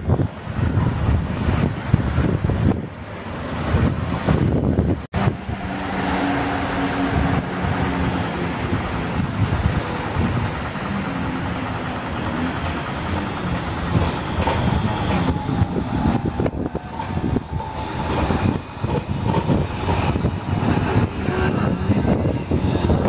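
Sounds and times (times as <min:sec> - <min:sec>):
traffic on a wet road: 0:00.0 - 0:23.0
tram approaching with low rumble: 0:00.0 - 0:23.0.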